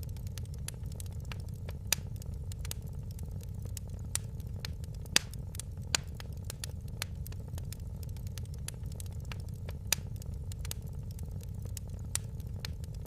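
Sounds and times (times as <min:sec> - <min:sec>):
wood fire crackling in fireplace: 0:00.0 - 0:13.0.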